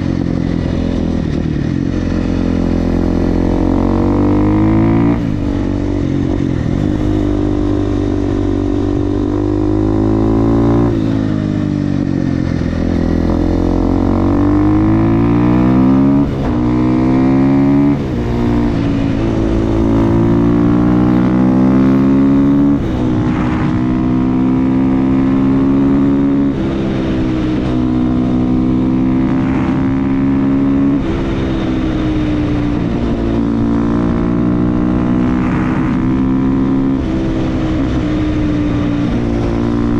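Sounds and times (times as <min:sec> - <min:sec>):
motorcycle accelerating through gears: 0:00.0 - 0:39.9.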